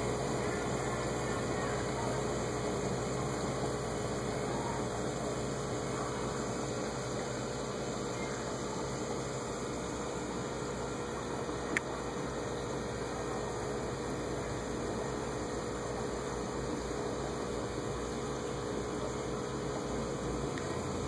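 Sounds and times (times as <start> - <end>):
aquarium bubbling water: 0.0 - 21.0.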